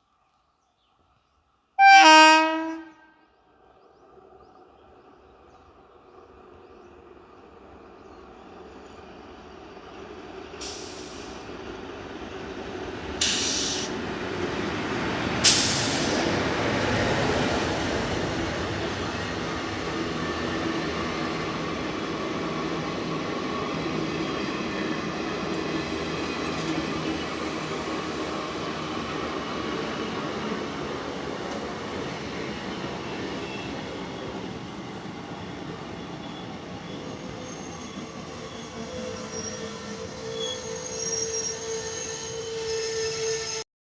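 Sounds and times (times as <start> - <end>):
train rumbling past: 1.8 - 43.6.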